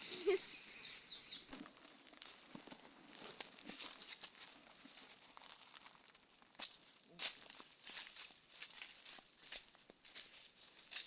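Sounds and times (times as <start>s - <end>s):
faint rustling and crackling: 0.0s - 11.0s.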